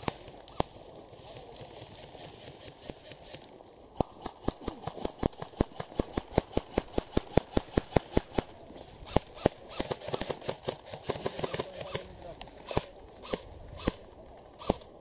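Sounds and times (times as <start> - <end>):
airsoft rifles firing: 0.0 - 3.4, 4.0 - 15.0.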